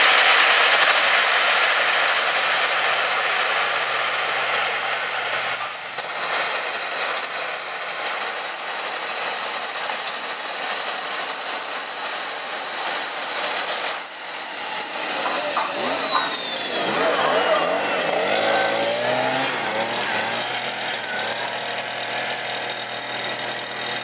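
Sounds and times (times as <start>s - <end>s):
jet engine rushing and whining: 0.0s - 24.0s.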